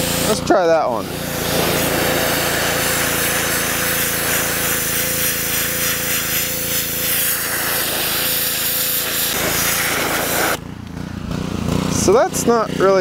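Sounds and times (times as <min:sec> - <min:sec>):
pressure washer water jet spraying: 0:00.0 - 0:10.6
pressure washer hum: 0:00.0 - 0:13.0.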